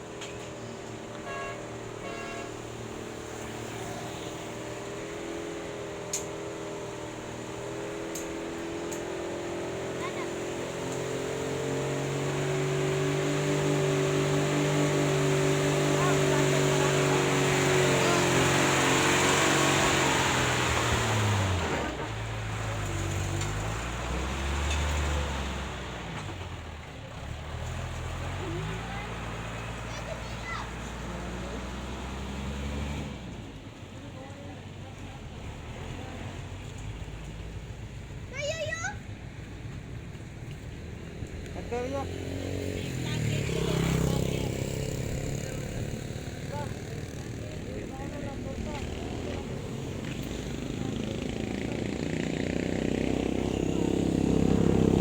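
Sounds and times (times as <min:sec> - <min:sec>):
truck motor humming: 0:00.0 - 0:55.0.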